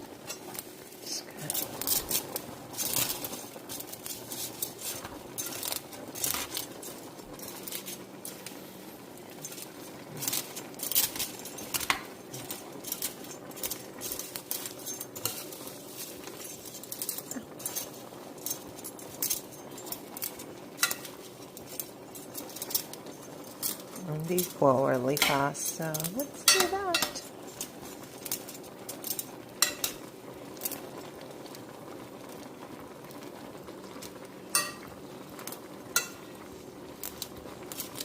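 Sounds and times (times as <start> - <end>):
utensil scraping cooking pot: 0.2 - 31.1.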